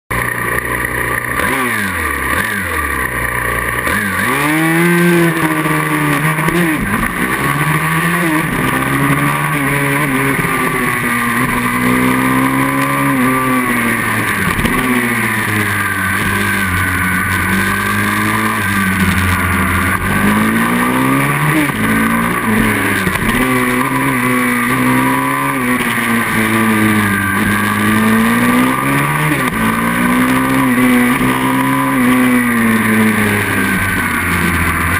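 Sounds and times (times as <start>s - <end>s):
pit bike engine revving: 0.1s - 34.9s.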